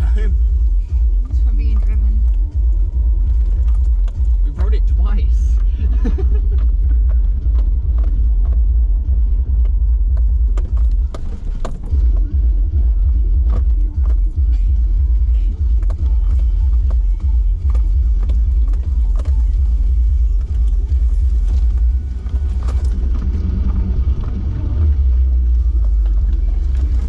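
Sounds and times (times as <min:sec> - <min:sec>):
knocks and rattles over bumps: 0:00.0 - 0:27.0
off-road vehicle rumbling: 0:00.0 - 0:27.0.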